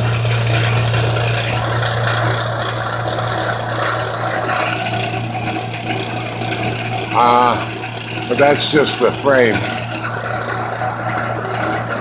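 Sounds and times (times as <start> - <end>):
heater fan motor humming: 0.0 - 12.0.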